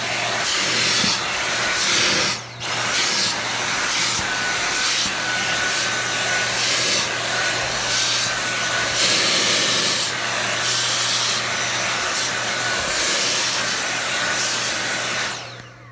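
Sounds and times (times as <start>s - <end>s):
vacuum cleaner whine: 0.0s - 15.9s.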